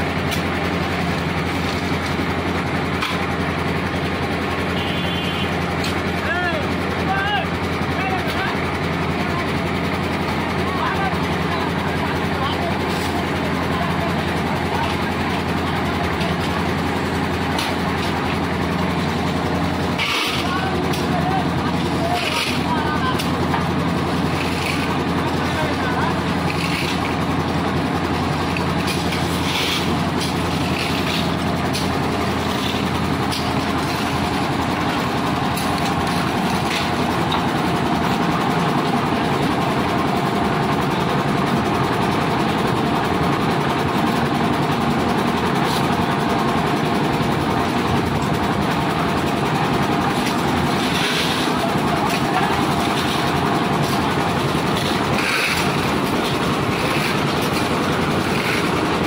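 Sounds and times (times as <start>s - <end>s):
concrete mixer running: 0.0s - 59.0s.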